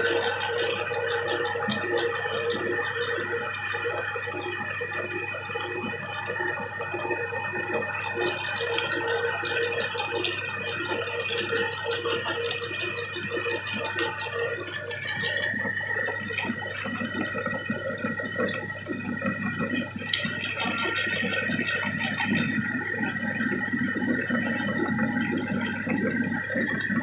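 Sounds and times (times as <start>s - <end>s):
meat grinder humming: 0.0s - 27.0s.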